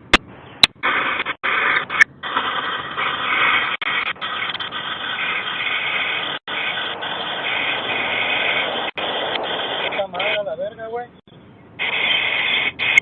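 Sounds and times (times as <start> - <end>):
steady noise hiss: 0.0 - 13.0.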